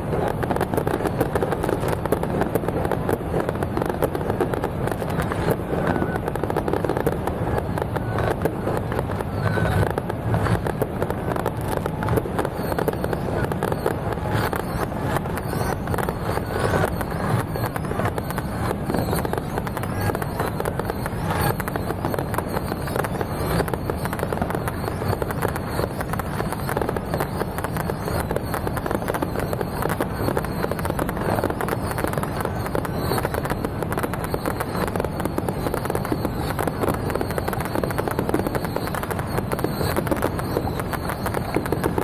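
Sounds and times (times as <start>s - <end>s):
fireworks crackling and banging: 0.0s - 42.0s.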